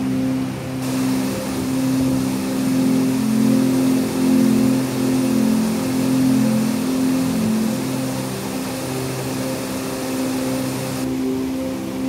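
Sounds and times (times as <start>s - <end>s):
soft instrumental music: 0.0s - 12.0s
waterfall over rocks: 0.0s - 12.0s.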